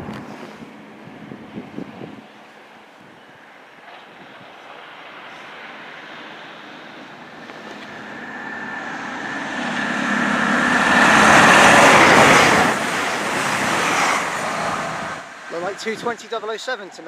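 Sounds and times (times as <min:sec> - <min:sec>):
train passing at speed: 0:00.7 - 0:17.0.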